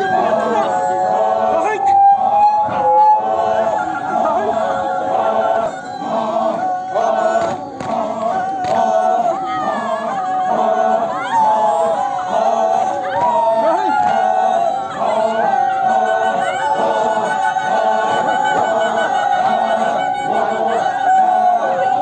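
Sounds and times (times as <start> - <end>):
men chanting in long notes: 0.0 - 22.0.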